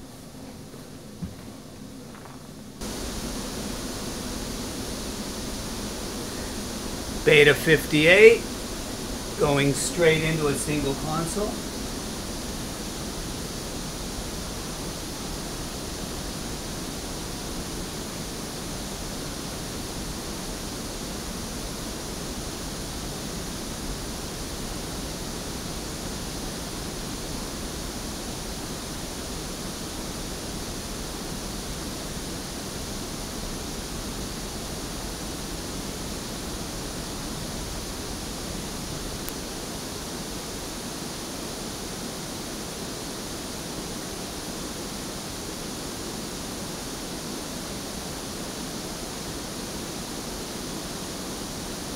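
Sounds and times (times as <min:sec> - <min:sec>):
pink noise hiss: 0:00.0 - 0:51.9.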